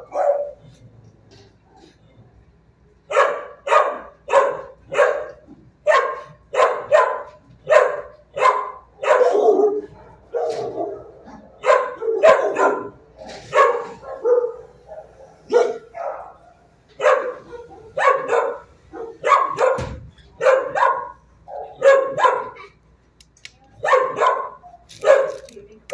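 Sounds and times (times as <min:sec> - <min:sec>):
dog barking: 0:00.0 - 0:00.7, 0:03.1 - 0:22.7, 0:23.8 - 0:25.5.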